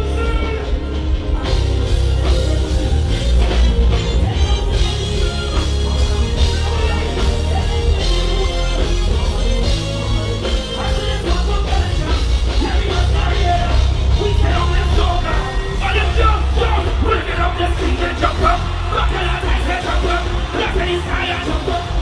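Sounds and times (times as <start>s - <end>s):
soca music with heavy bass: 0.0s - 22.0s.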